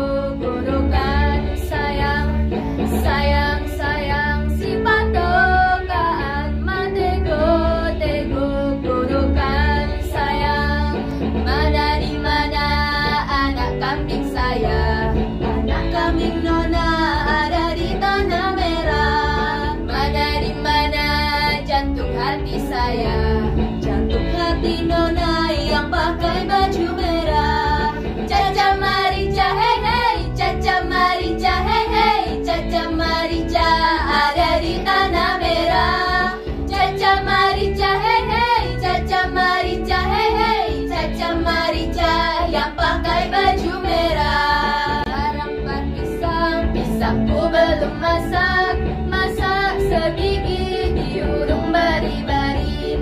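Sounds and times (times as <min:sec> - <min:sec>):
girls singing in harmony: 0:00.0 - 0:53.0.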